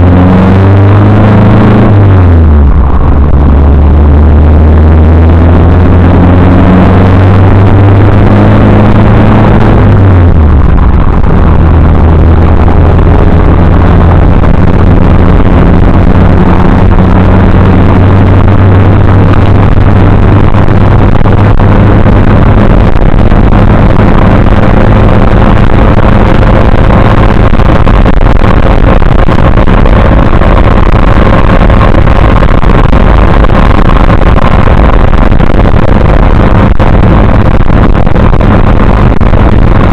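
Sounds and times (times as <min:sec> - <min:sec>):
distorted car engine running: 0:00.0 - 0:39.9.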